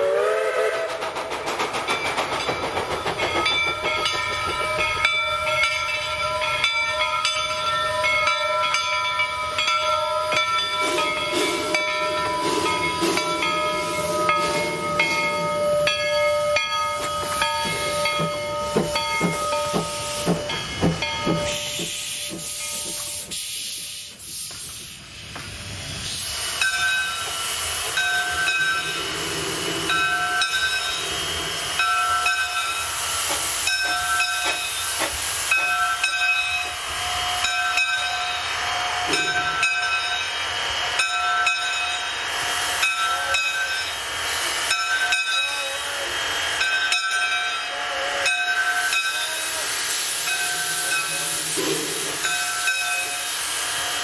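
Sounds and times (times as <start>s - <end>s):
loud steam hiss: 0.0s - 54.0s
steam locomotive chuffing: 0.0s - 54.0s.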